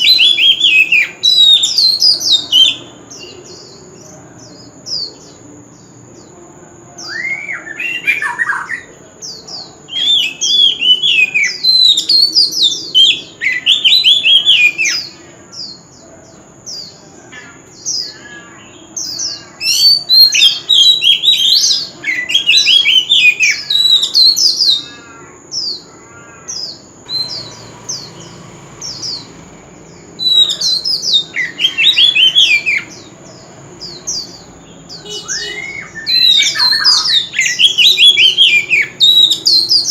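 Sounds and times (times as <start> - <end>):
bird singing whistles and chatter: 0.0 - 5.4, 6.9 - 15.9, 16.7 - 25.8, 26.6 - 39.9.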